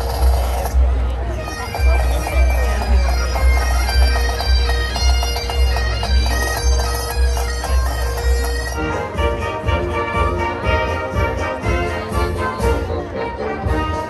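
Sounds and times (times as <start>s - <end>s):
bagpipes playing melody: 0.0s - 14.0s.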